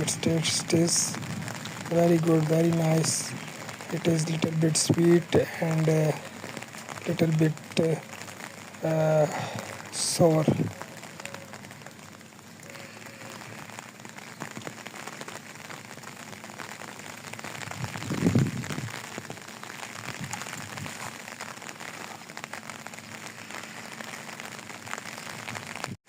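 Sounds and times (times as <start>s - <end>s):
fine raindrops pattering: 0.0s - 26.0s.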